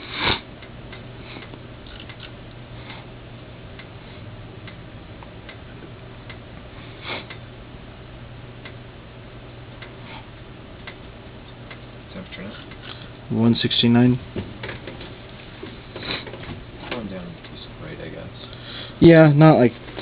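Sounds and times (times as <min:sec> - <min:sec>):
oven low hum: 0:00.0 - 0:20.0.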